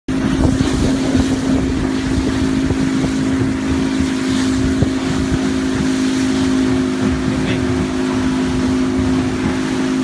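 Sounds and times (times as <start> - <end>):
motorboat engine humming: 0.1 - 10.0
wind buffeting microphone: 0.1 - 10.0.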